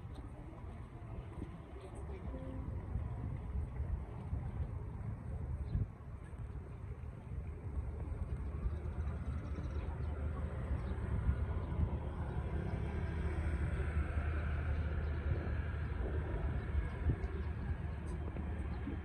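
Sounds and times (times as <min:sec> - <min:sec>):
boat engine droning: 0:00.0 - 0:19.0
wind: 0:00.0 - 0:19.0.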